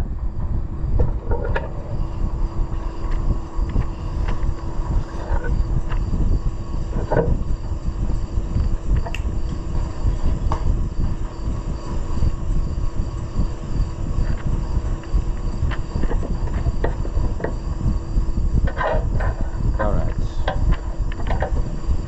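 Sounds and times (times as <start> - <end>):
low mechanical rumble: 0.0 - 22.0.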